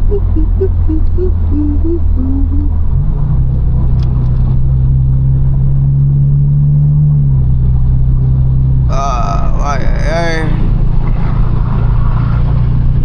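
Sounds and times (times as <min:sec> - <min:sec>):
car exhaust running high pitch: 0:00.0 - 0:04.0, 0:04.6 - 0:13.0.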